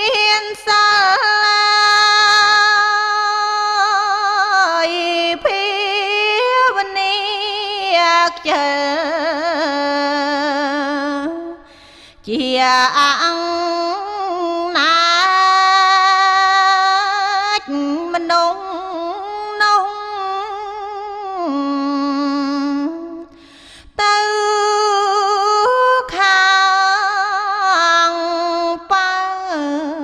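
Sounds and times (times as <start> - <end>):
woman chanting unaccompanied: 0.0 - 11.6, 12.2 - 23.3, 24.0 - 30.0.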